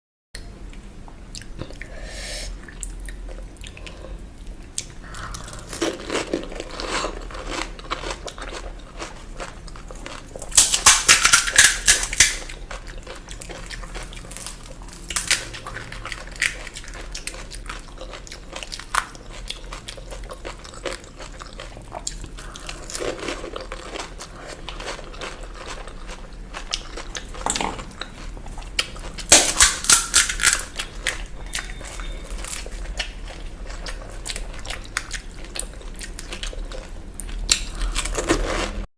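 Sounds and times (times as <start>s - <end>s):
crisp food crunching: 4.8s - 38.8s.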